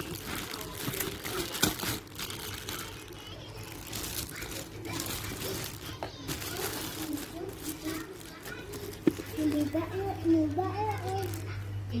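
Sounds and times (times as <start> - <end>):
faint indistinct voices: 0.0 - 12.0
rustling and crinkling: 0.0 - 12.0.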